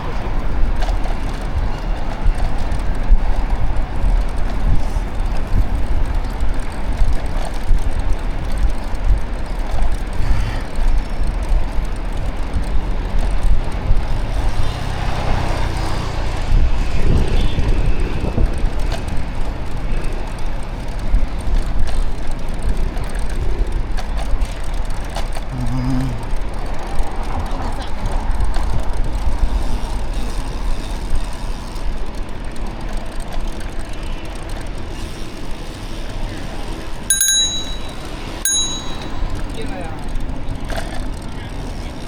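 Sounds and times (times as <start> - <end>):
road noise low rumble: 0.0 - 42.0.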